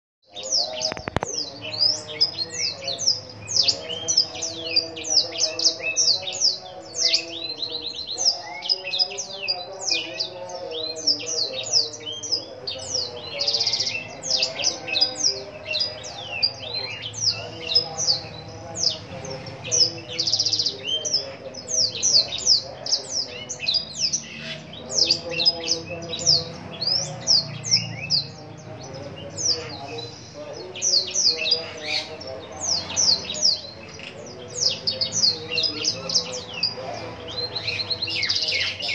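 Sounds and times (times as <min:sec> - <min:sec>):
bird singing high chirps: 0:00.2 - 0:38.9.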